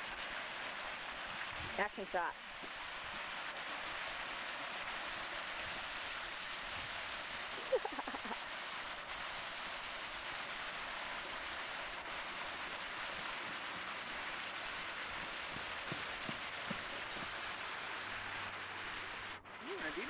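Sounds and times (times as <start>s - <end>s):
waterfall rushing and splashing: 0.0s - 20.0s.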